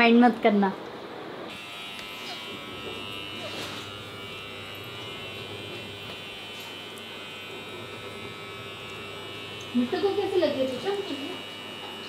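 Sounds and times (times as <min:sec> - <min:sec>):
electric buzz with high whine: 0:01.0 - 0:12.0.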